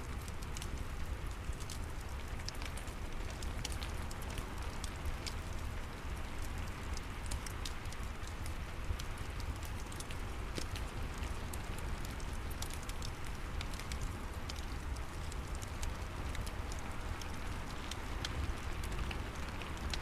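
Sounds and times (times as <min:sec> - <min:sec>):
fireplace crackling: 0:00.2 - 0:20.0.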